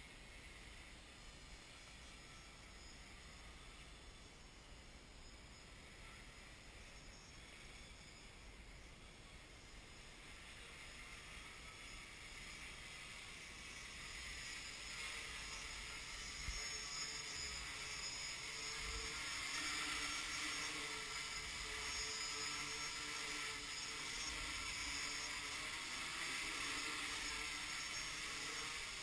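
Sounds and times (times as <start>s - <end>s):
drone propellers whirring: 0.0s - 29.0s
steady hum: 0.0s - 29.0s.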